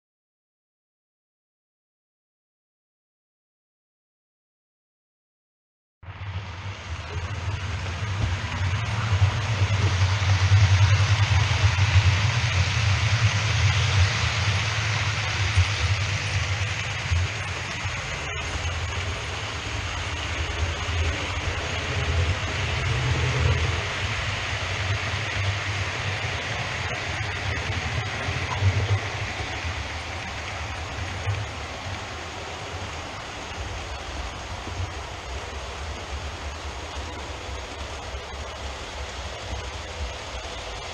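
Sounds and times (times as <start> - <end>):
model train humming: 6.1 - 40.9.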